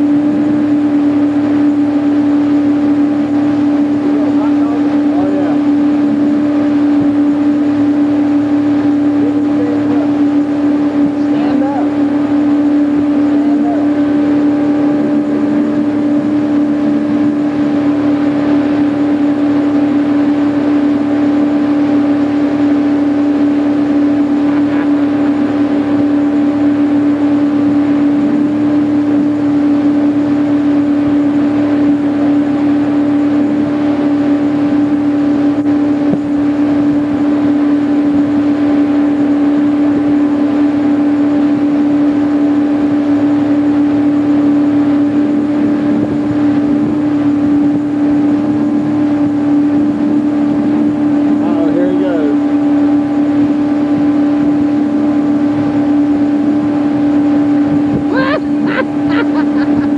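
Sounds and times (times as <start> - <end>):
motorboat engine droning: 0.0 - 59.9.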